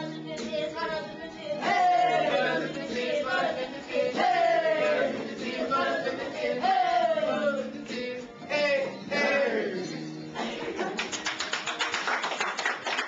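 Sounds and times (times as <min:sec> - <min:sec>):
voices singing: 0:00.0 - 0:10.8.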